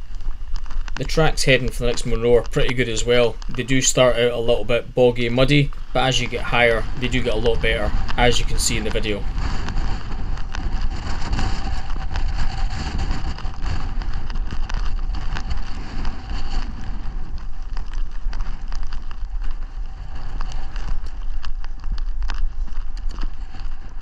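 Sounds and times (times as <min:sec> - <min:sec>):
footsteps on hill track: 0:00.0 - 0:24.0
wind buffeting microphone: 0:00.0 - 0:24.0.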